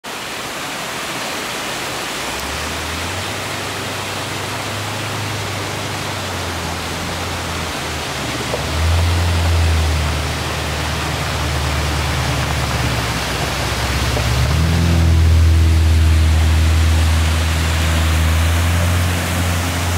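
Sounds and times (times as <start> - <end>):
waterfall rushing: 0.1 - 19.9
low steady drone: 2.4 - 19.9.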